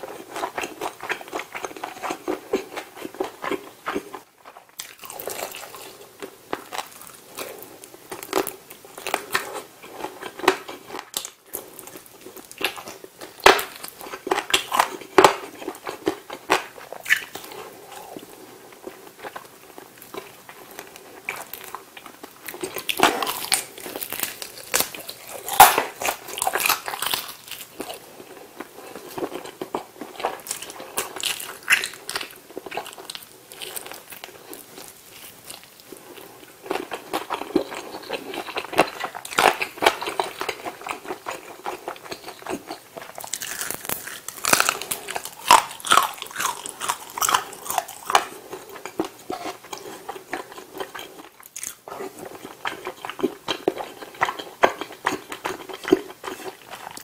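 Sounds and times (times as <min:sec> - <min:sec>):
crunching fried chicken skin: 0:00.3 - 0:18.3, 0:19.2 - 0:57.0.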